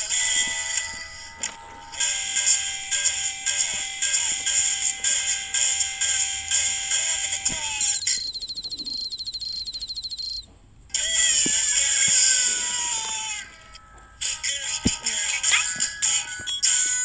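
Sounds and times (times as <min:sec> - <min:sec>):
high pulsing animal trill: 0:00.0 - 0:17.0.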